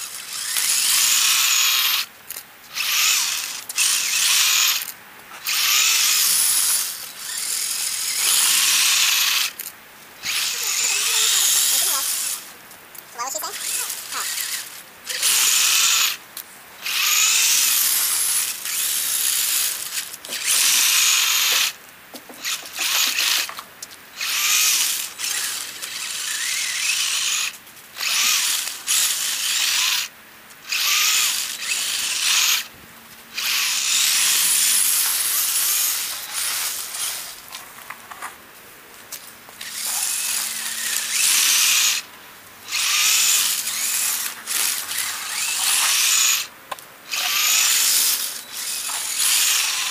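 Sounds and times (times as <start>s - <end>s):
electric motor whining: 0.0s - 2.1s, 2.7s - 12.5s, 13.2s - 16.2s, 16.8s - 23.6s, 24.2s - 32.7s, 33.3s - 37.5s, 39.6s - 46.5s, 47.1s - 49.9s.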